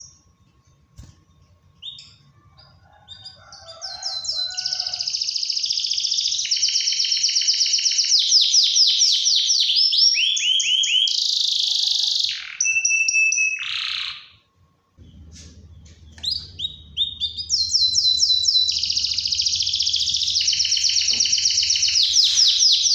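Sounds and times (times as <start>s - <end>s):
canary singing trills: 0.0s - 14.4s, 15.0s - 22.9s.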